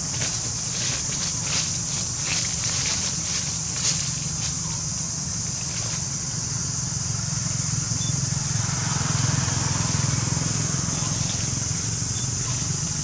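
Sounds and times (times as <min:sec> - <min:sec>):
steady high hiss: 0:00.0 - 0:13.0
vehicle engine running: 0:00.0 - 0:13.0.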